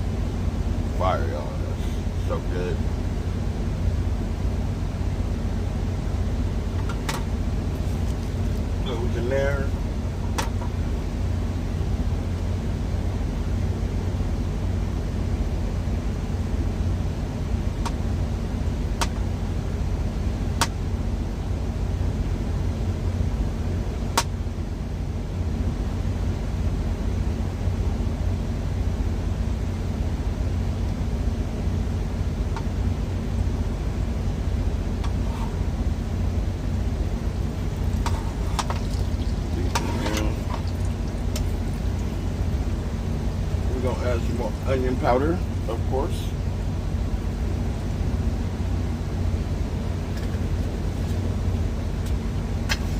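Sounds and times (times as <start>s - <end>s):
truck engine idling: 0.0s - 27.0s, 27.6s - 52.9s.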